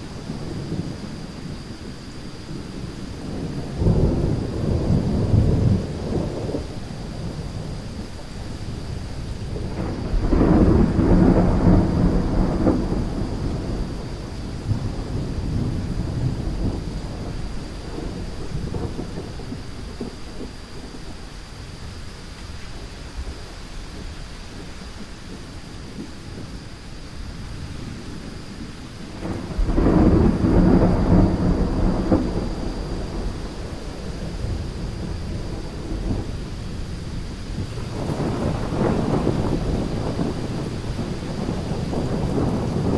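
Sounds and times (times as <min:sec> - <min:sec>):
steady rain: 0:00.0 - 0:42.9
thunder rumbling: 0:00.0 - 0:42.9.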